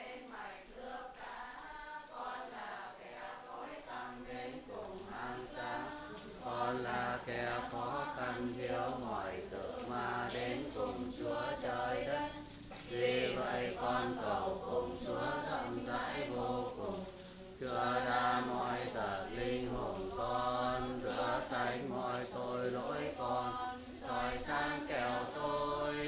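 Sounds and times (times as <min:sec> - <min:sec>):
congregation chanting in unison: 0:00.0 - 0:26.0.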